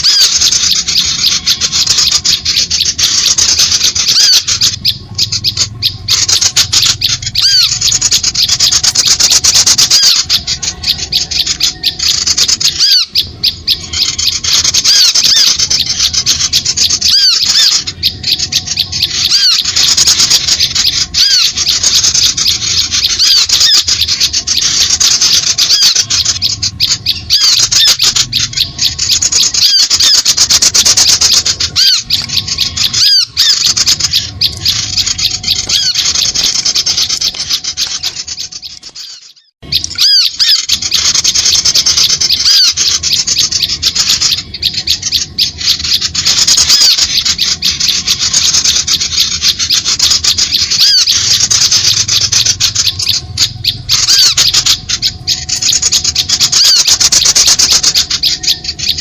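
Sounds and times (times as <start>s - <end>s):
high-pitched bird chatter: 0.0s - 59.0s.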